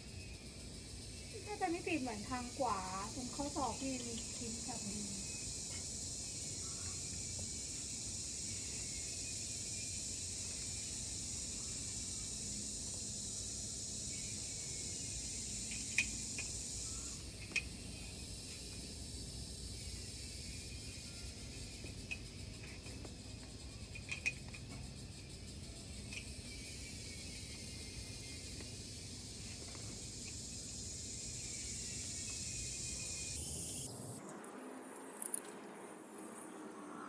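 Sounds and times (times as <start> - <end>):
high-pitched insect drone: 0.0 - 37.0.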